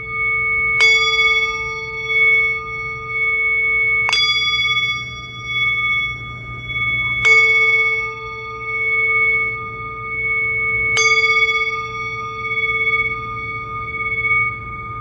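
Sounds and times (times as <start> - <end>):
metal singing bowl ringing: 0.0 - 15.0.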